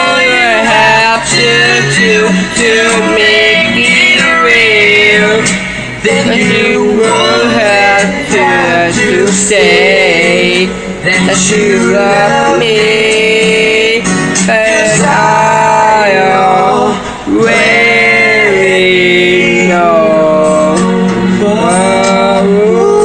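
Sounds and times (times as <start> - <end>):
instrumental accompaniment: 0.0 - 23.0
man singing long held notes: 0.0 - 23.0.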